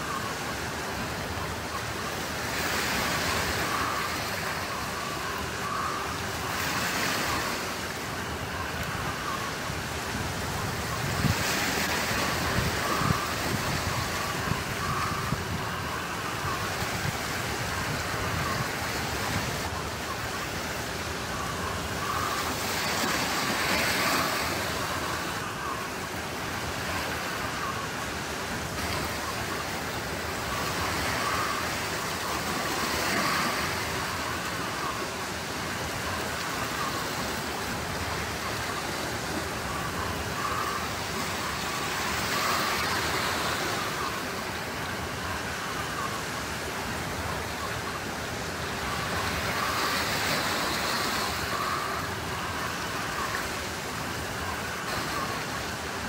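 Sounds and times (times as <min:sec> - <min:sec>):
waves washing over pebbles: 0:00.0 - 0:56.0.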